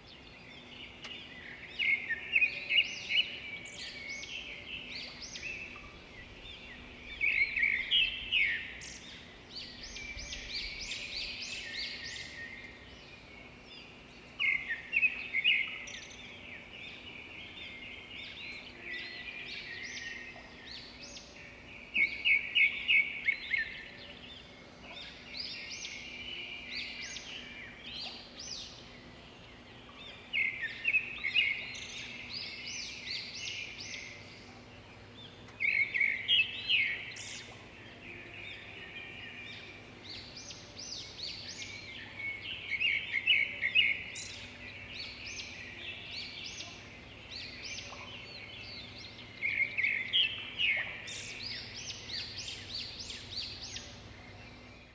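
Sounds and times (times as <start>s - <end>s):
sparrows chirping: 0.0s - 54.9s.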